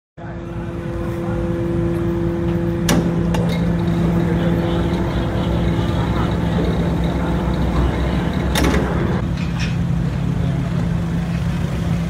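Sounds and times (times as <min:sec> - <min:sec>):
ferry machinery droning: 0:00.2 - 0:12.0.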